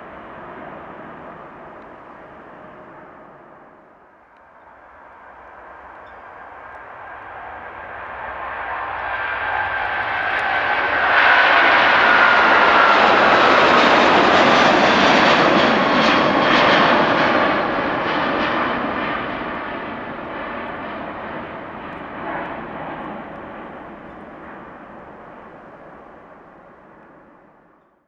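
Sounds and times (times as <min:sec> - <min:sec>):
jet engines at takeoff: 0:00.0 - 0:27.8.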